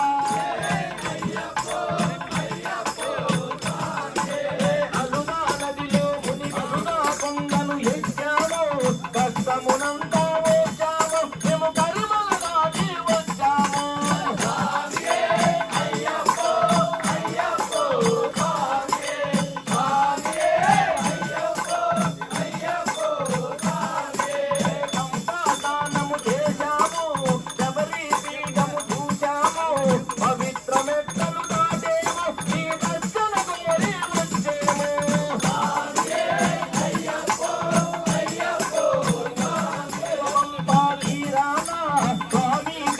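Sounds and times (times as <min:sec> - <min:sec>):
fast rattling percussion: 0:00.0 - 0:42.9.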